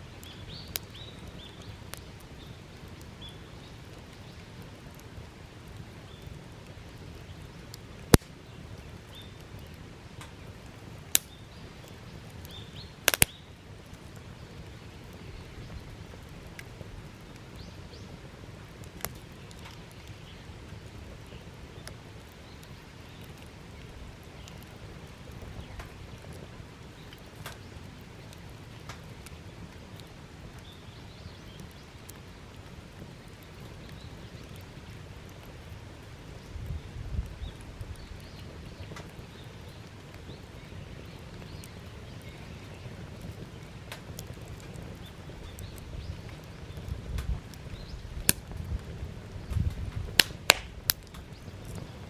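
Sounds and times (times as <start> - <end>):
fire pops: 0.0 - 52.0
wood fire crackling: 0.0 - 52.0.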